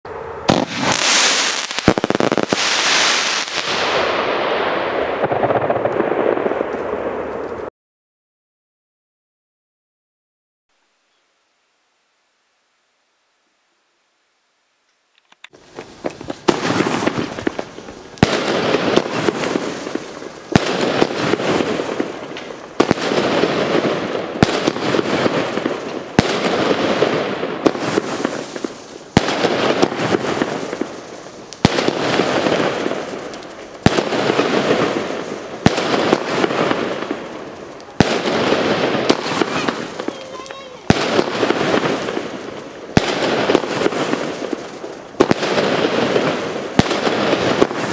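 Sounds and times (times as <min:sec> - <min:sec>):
firework shots bang and hiss: 0:00.4 - 0:07.6, 0:15.5 - 0:47.9.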